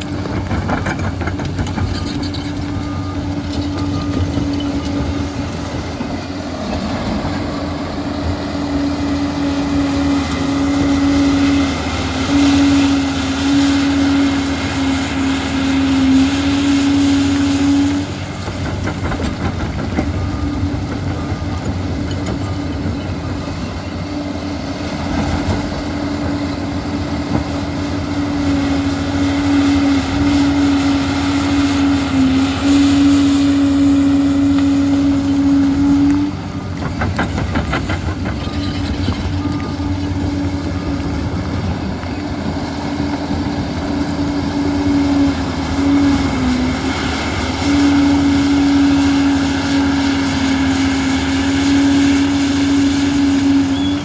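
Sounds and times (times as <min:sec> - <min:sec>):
track clatter: 0:00.0 - 0:11.2, 0:17.3 - 0:24.1, 0:24.9 - 0:28.7, 0:31.2 - 0:54.0
diesel engine under load: 0:00.0 - 0:54.0.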